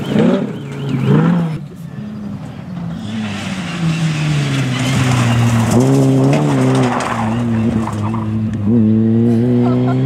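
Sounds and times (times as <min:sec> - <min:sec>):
rally car engine: 0:00.0 - 0:10.0.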